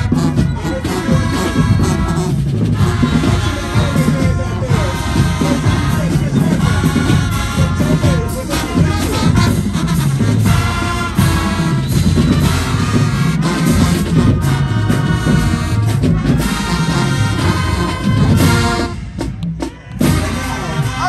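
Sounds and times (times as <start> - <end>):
drumline: 0.0 - 21.0
marching band brass playing: 0.0 - 21.0.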